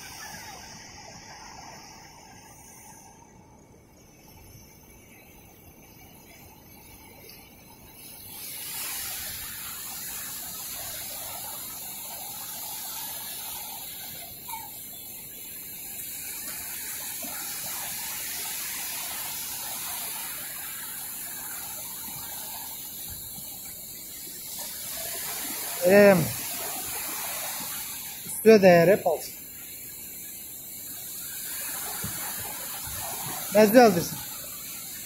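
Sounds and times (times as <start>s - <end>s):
waves washing on sandy beach: 0.0s - 3.0s, 8.2s - 35.0s.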